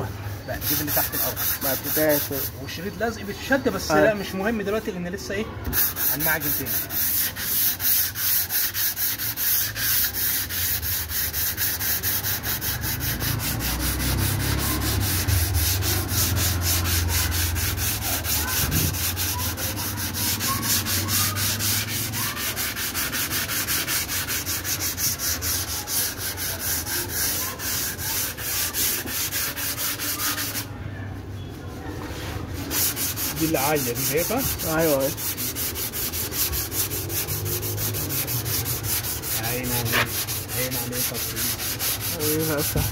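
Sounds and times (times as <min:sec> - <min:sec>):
hand sanding rasping strokes: 0:00.0 - 0:30.8, 0:32.0 - 0:42.9.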